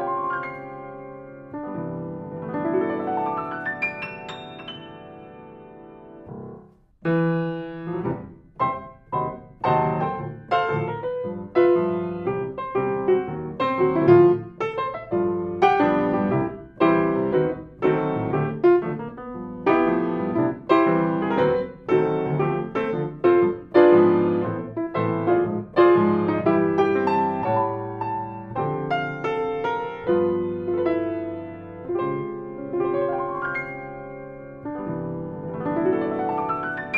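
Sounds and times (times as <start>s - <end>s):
grand piano playing: 0.0s - 36.9s.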